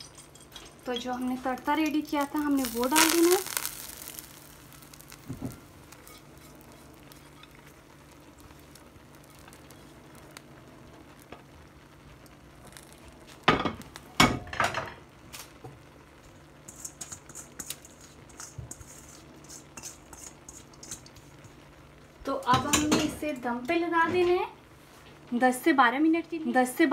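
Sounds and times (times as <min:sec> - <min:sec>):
hot oil crackling on rice: 0:00.0 - 0:26.9
hot oil sizzling: 0:00.0 - 0:26.9.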